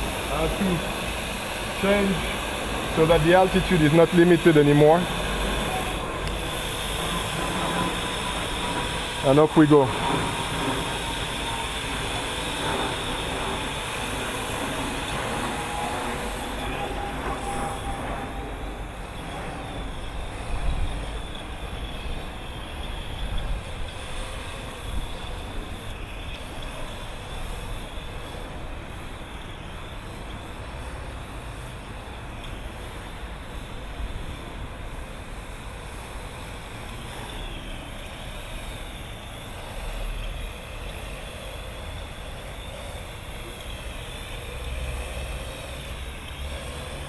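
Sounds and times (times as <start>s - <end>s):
drone rotors whining: 0.0s - 47.0s.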